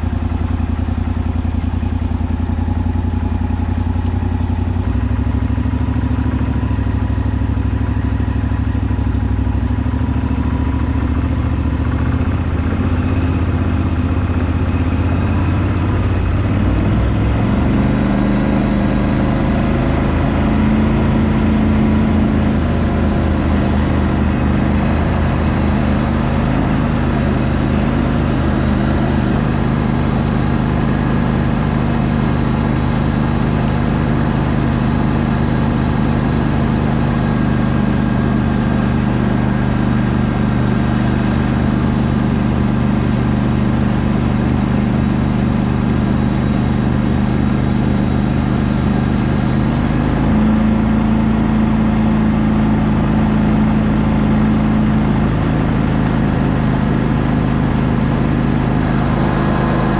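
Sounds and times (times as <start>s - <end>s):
boat motor running: 0.0s - 59.9s
water rushing along hull: 10.0s - 59.9s.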